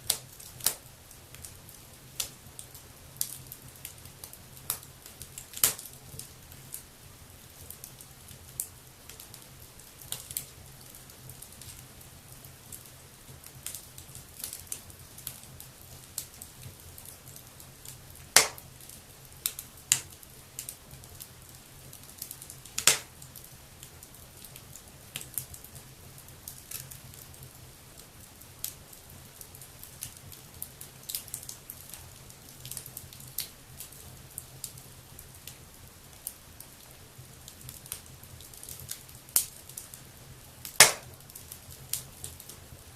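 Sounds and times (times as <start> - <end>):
sharp snaps of fire: 0.0 - 42.9
wood fire crackling: 0.0 - 42.9.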